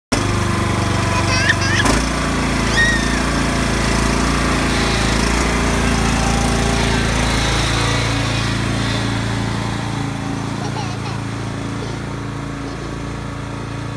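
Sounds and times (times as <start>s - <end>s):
lawn mower engine running: 0.1s - 13.9s.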